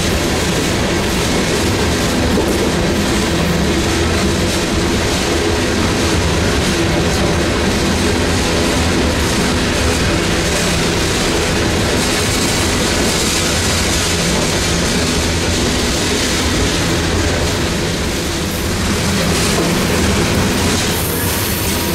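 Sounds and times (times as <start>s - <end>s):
freight train rolling past: 0.0s - 21.9s.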